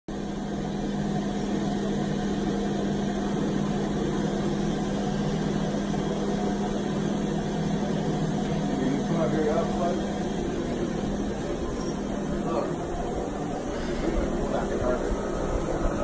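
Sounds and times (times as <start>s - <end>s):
carpet machine humming: 0.1s - 16.0s.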